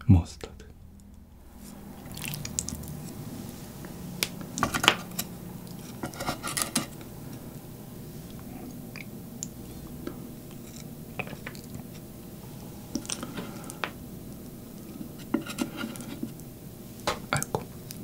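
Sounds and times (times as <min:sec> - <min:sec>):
soft chewing: 0:01.0 - 0:07.6, 0:08.2 - 0:18.0.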